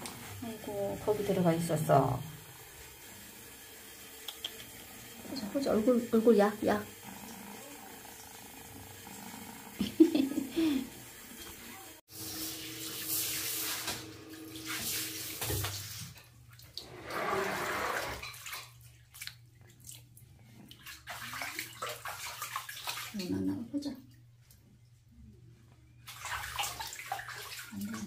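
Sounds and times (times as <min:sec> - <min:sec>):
water splashing in a basin: 0:00.0 - 0:24.2, 0:26.0 - 0:28.0.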